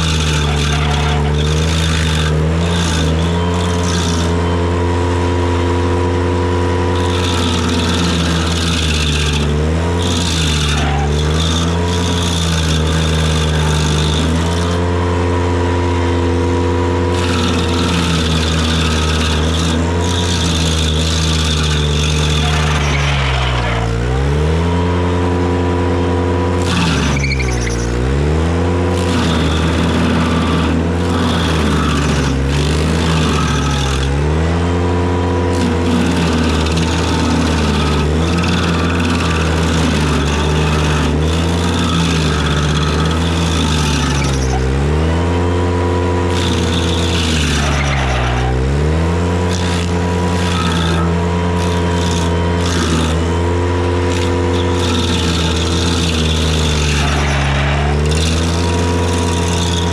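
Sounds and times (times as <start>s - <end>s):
cutter teeth grinding wood: 0.0s - 59.9s
tractor engine running hard: 0.0s - 59.9s.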